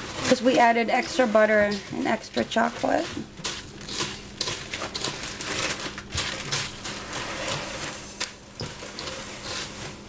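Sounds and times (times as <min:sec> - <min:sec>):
spoon scraping steel bowl: 0:01.0 - 0:08.0, 0:08.6 - 0:10.0.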